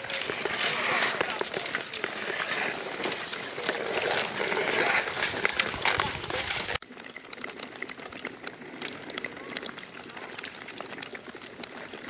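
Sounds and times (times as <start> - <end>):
pole tips clicking on ice: 0.0 - 12.0
skate blades scraping on ice: 0.0 - 12.0.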